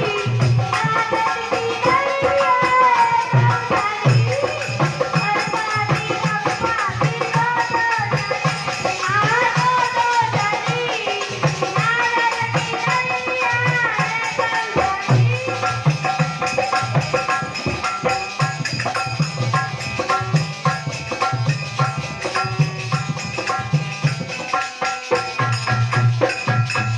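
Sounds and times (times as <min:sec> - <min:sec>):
hand drum beat: 0:00.0 - 0:26.9
shaker rattle percussion: 0:00.0 - 0:26.9.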